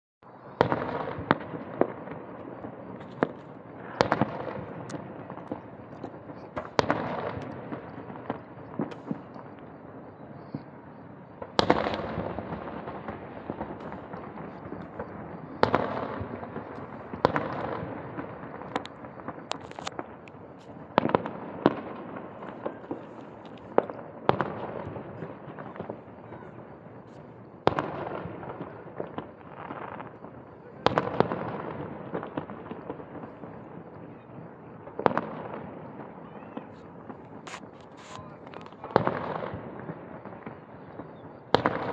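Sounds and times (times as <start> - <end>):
fireworks booming: 0.2 - 41.9.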